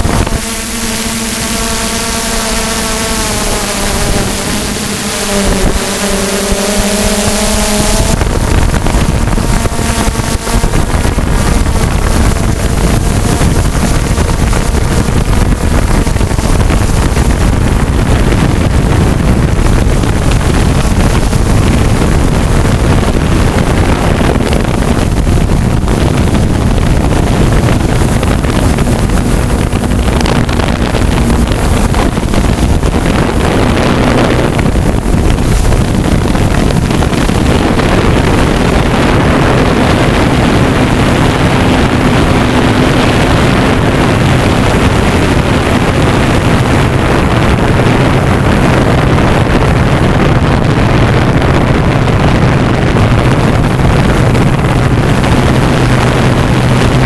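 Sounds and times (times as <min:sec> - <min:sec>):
propeller wash rumble: 0:00.0 - 0:57.0
wind on microphone: 0:00.0 - 0:57.0.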